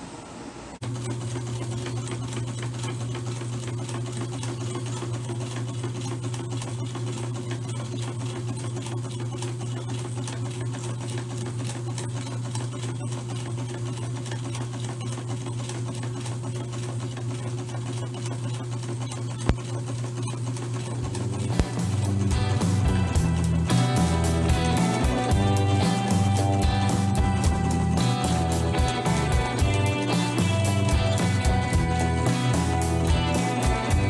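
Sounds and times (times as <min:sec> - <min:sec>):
sewing machine running: 0:00.8 - 0:34.0.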